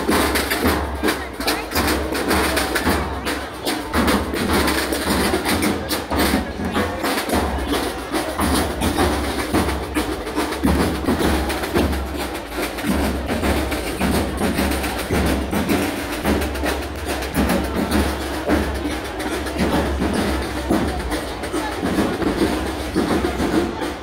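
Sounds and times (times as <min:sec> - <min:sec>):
snare drums playing fast rhythm: 0:00.0 - 0:24.0.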